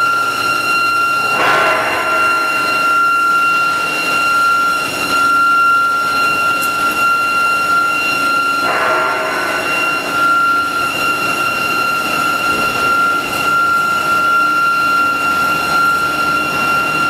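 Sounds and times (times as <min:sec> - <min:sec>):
machine whining: 0:00.0 - 0:17.0.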